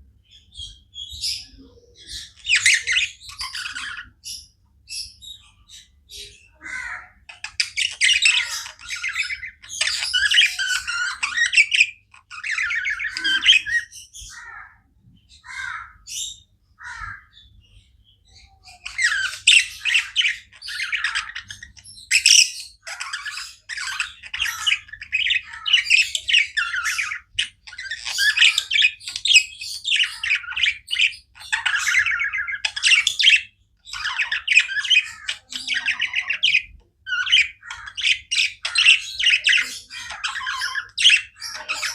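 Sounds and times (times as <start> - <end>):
budgerigars chirping and chattering: 0.2 - 41.9.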